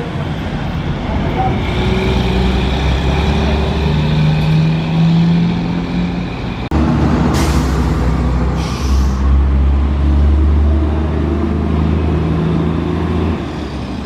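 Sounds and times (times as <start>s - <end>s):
heavy truck engine droning: 0.0s - 14.0s.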